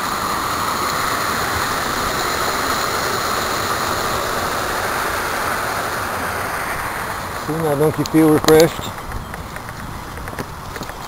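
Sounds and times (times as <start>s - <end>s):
bicycle tyres rolling on path: 0.0s - 11.0s
wind on microphone: 1.0s - 11.0s.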